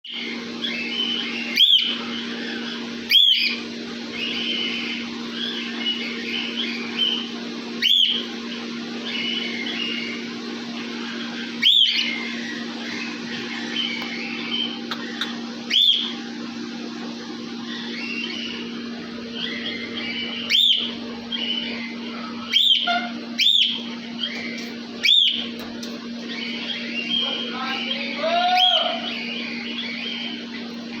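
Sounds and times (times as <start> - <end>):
birds chirping and chattering: 0.1 - 31.0.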